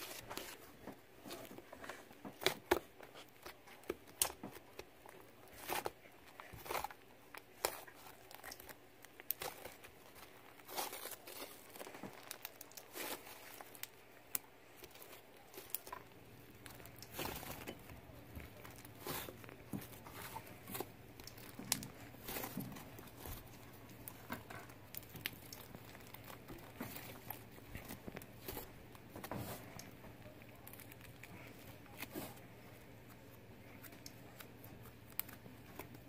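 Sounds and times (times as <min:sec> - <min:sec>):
slime crackling and squishing: 0:00.0 - 0:36.0.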